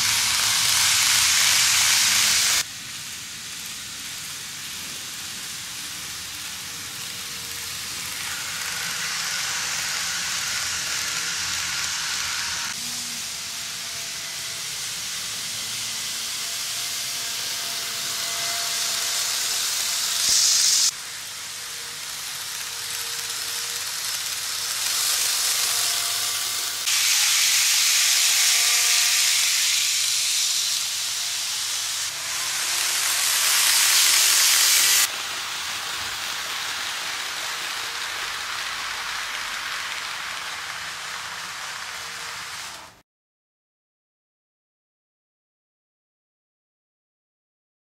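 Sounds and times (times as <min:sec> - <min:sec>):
model train wheels and motors whirring: 0:00.0 - 0:43.0.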